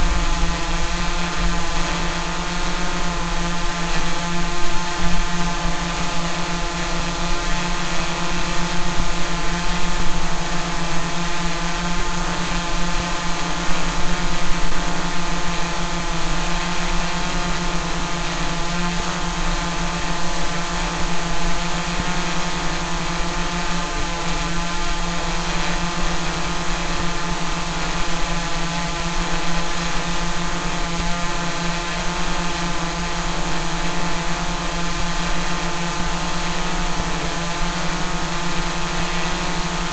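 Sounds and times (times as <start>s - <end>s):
drone propellers humming: 0.0s - 39.9s.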